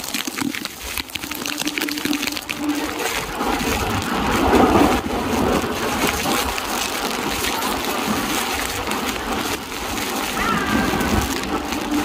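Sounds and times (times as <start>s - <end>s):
rain: 0.0s - 12.0s.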